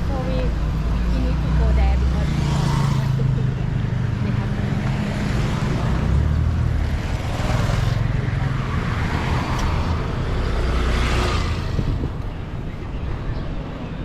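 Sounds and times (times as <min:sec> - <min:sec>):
road and traffic noise: 0:00.0 - 0:14.0
small engine droning: 0:00.0 - 0:14.0.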